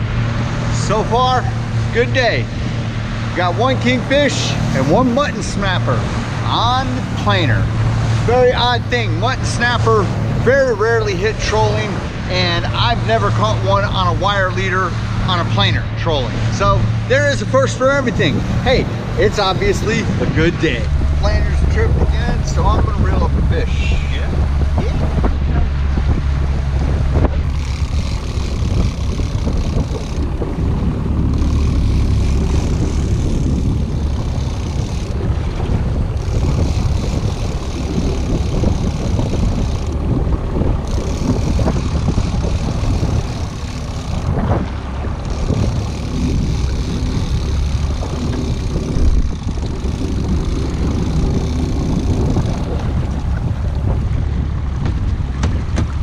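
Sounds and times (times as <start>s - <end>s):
outboard motor droning: 0.0s - 56.0s
water rushing past hull: 0.0s - 56.0s
wind buffeting microphone: 0.0s - 56.0s.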